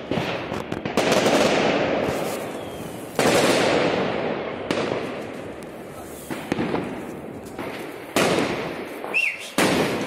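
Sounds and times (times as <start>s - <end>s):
big firework bursts: 0.0s - 10.0s
fireworks crackling bangs: 0.0s - 10.0s.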